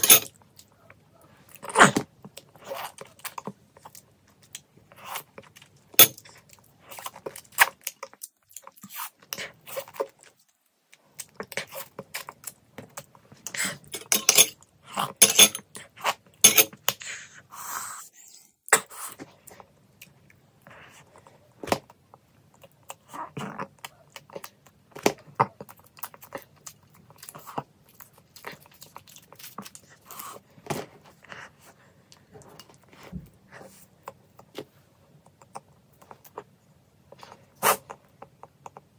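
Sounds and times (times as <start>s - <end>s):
close chewing and mouth clicks: 0.0s - 13.9s, 18.2s - 38.9s.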